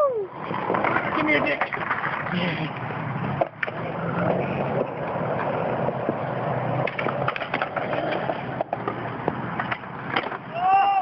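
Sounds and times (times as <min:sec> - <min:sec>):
skateboard wheels rolling on concrete: 0:00.0 - 0:11.0
skateboard deck clacks: 0:00.4 - 0:10.6.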